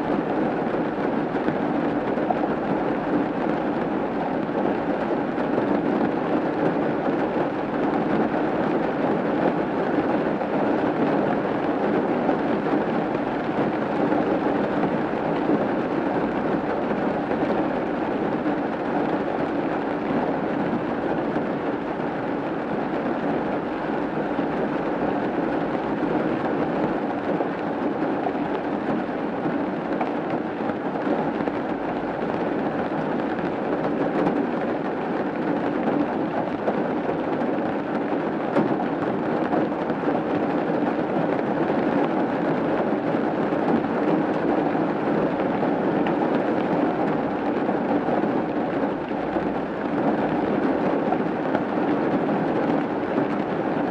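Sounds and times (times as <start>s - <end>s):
rain on a roof: 0.0s - 53.9s.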